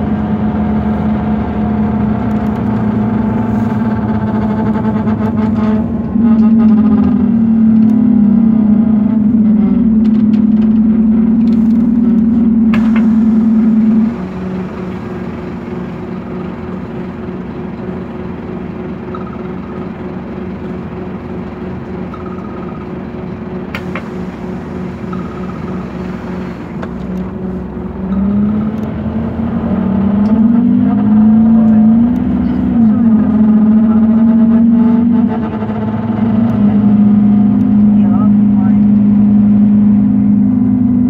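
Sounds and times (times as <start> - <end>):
bus engine droning hum: 0.0 - 41.0.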